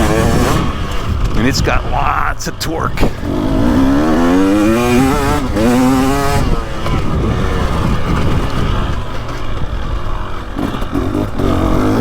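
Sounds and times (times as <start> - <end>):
two-stroke motorcycle engine revving: 0.0 - 1.4, 3.1 - 12.0.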